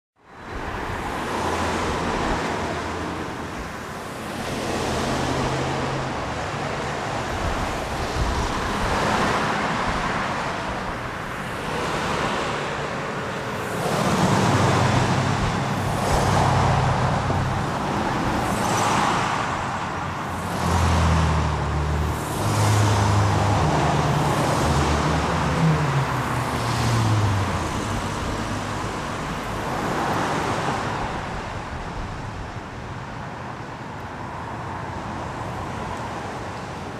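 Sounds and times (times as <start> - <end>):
cars passing: 0.3 - 36.9
heavy vehicle engine drone: 1.2 - 32.8.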